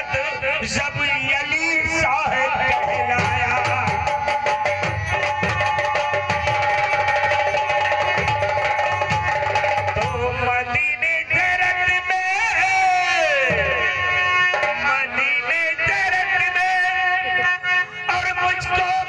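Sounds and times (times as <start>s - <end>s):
drums in busy rhythm: 0.0s - 19.0s.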